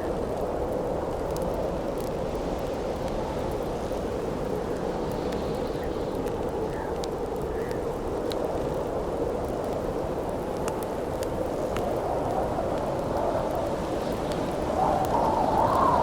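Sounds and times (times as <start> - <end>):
campfire crackling: 0.0 - 16.0
howling wind: 0.0 - 16.0.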